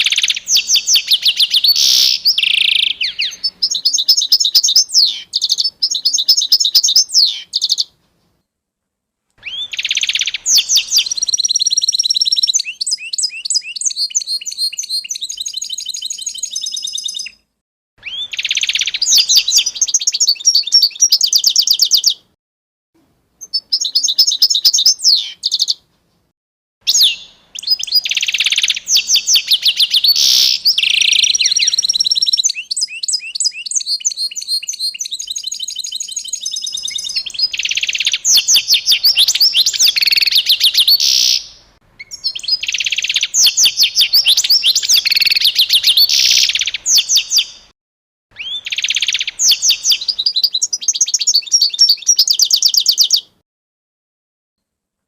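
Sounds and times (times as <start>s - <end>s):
songbird trilling: 0.0s - 7.9s, 9.4s - 17.4s, 18.0s - 22.2s, 23.4s - 25.8s, 26.9s - 47.7s, 48.4s - 53.3s.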